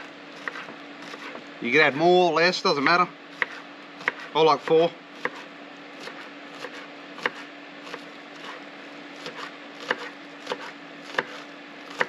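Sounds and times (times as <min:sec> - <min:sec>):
steady low hum: 0:00.0 - 0:12.0
knife chopping on wooden board: 0:00.4 - 0:01.4, 0:02.8 - 0:08.6, 0:09.2 - 0:12.0.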